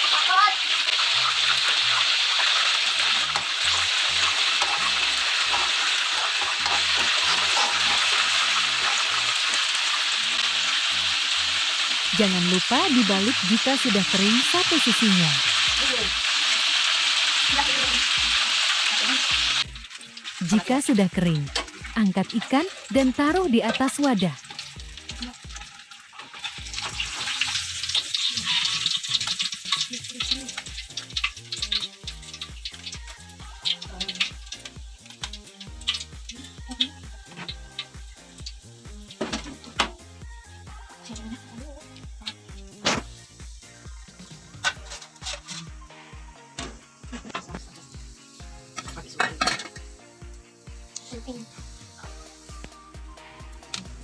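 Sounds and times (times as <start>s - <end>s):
fish sizzling in hot oil: 0.0s - 54.0s.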